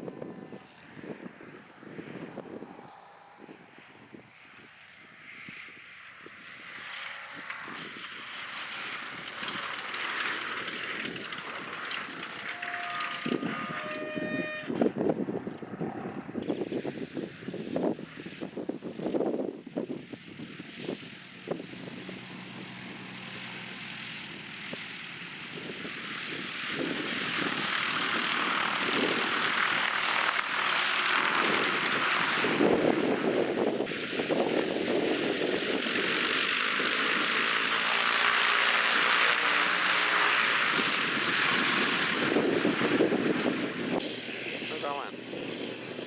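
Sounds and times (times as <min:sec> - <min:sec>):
airplane engine and propeller: 0:00.0 - 0:46.0
wind buffeting microphone: 0:00.0 - 0:46.0.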